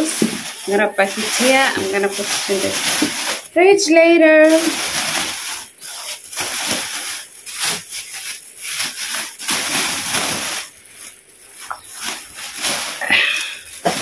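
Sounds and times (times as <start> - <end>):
grocery bags rustling and crinkling: 0.0 - 14.0.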